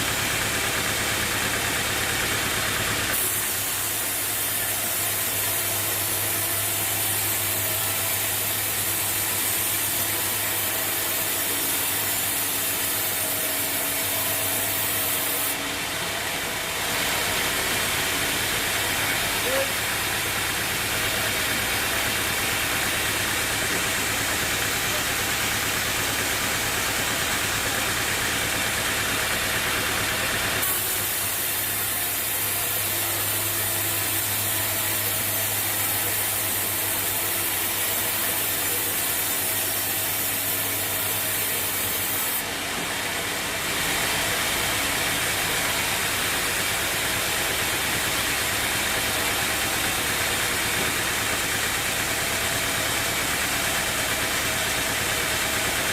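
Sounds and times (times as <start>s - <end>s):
sawmill machinery hum: 0.0s - 55.9s.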